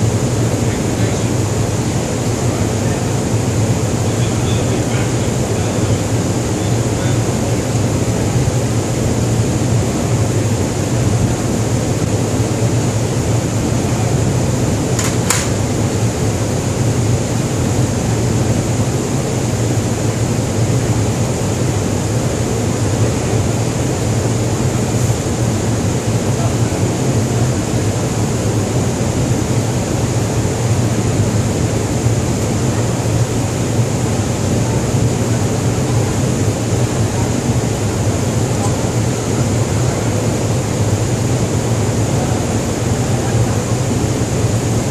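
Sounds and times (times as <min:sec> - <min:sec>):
low drone of ship machinery: 0:00.0 - 0:44.9.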